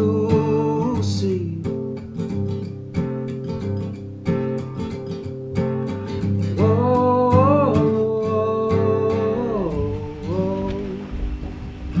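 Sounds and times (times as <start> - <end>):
acoustic guitar song: 0.0 - 12.0.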